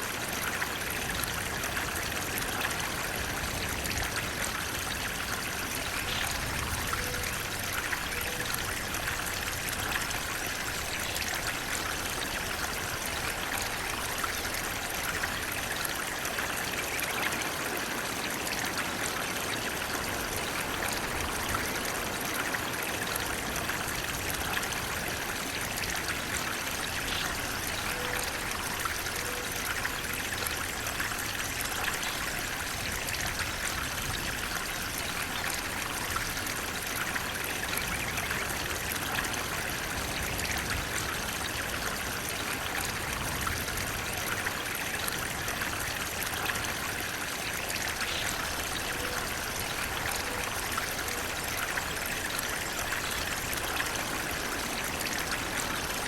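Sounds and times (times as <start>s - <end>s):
water rushing and trickling: 0.0s - 56.0s.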